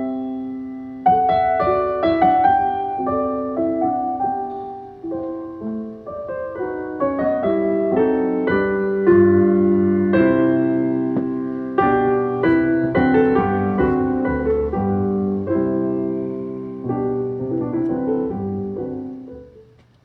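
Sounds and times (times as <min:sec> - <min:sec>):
piano music on radio: 0:00.0 - 0:19.8.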